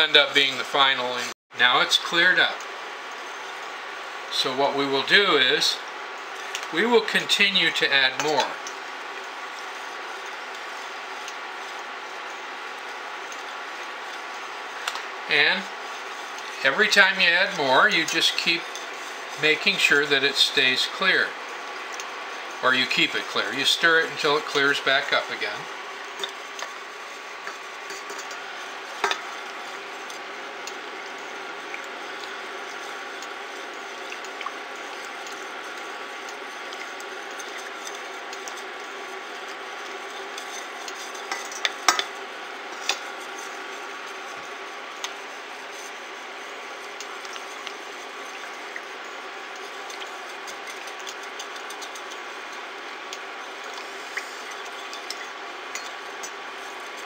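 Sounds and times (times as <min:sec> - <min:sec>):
spoon stirring swishing: 0:06.4 - 0:57.0.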